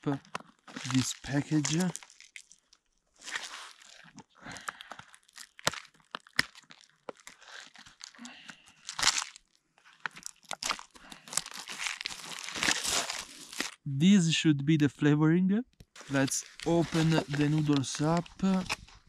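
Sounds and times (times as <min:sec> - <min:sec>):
plastic packaging crinkling and tearing: 0:00.1 - 0:13.8, 0:16.0 - 0:19.0.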